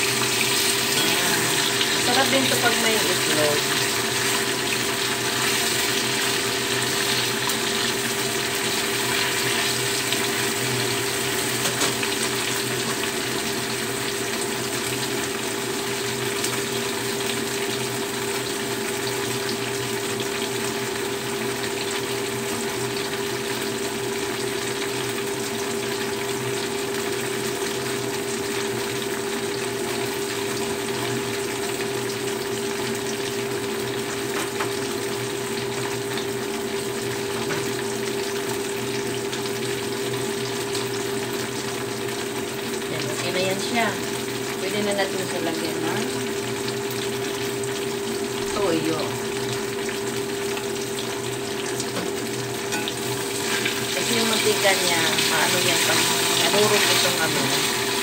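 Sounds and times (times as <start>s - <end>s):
tofu sizzling in hot oil: 0.0s - 58.0s.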